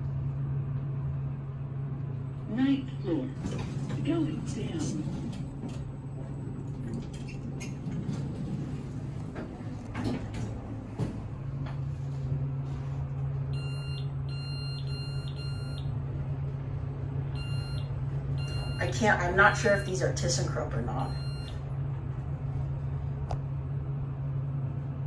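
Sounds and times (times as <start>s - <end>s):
elevator car humming: 0.0s - 25.0s.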